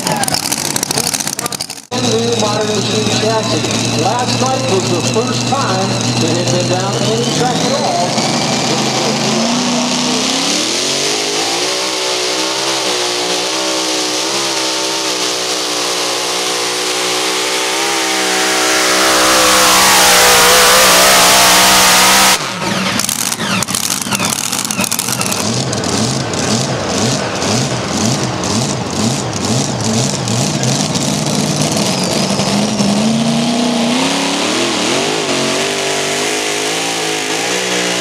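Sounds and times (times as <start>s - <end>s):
engine running roughly: 0.0s - 38.0s
tractor engine revving: 0.0s - 38.0s.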